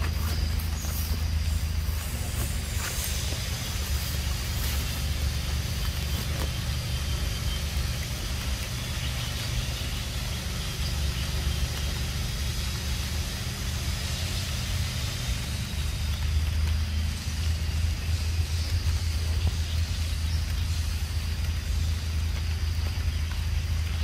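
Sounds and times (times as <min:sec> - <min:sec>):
faint hiss: 0:00.0 - 0:24.0
motor humming: 0:00.0 - 0:24.0.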